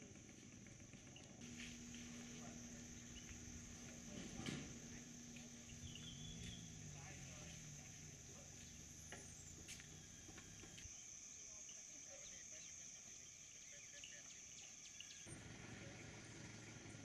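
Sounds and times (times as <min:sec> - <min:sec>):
faint ticks and chirps: 0:00.6 - 0:04.1, 0:04.9 - 0:15.3
high-pitched insect drone: 0:01.0 - 0:16.0.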